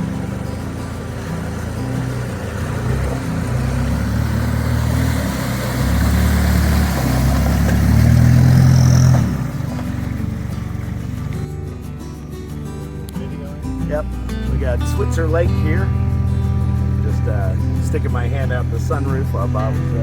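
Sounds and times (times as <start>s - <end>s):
diesel engine driving on dirt: 0.0s - 20.0s.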